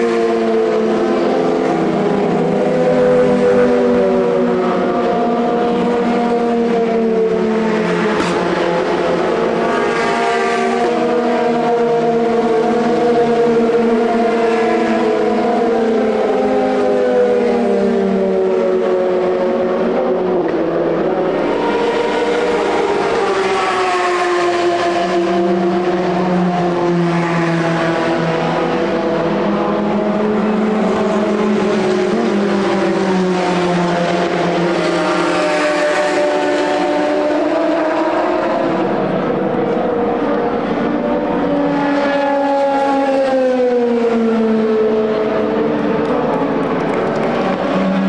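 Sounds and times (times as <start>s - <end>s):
racing car engines passing: 0.0s - 48.0s.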